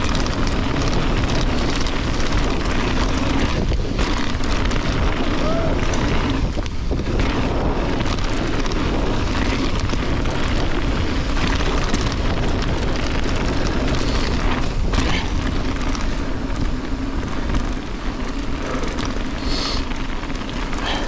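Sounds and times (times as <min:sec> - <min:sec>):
bike rattling: 0:00.0 - 0:21.0
tyres crunching over gravel: 0:00.0 - 0:21.0
wind buffeting microphone: 0:00.0 - 0:21.0.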